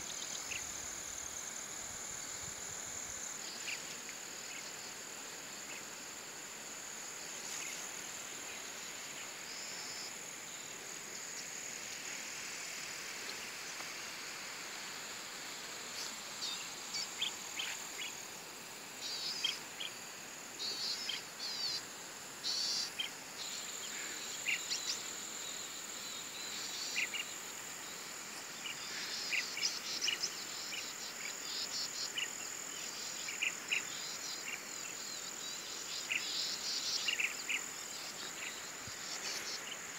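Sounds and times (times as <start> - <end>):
insects trilling drone: 0.0 - 39.9.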